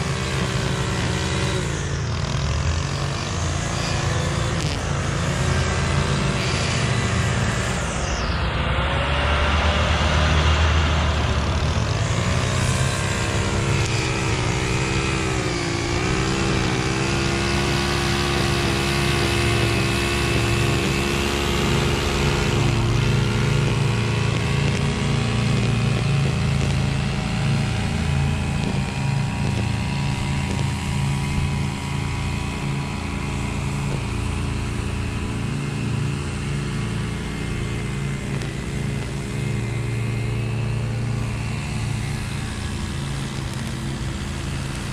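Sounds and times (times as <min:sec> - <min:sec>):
mower engine running: 0:00.0 - 0:44.9.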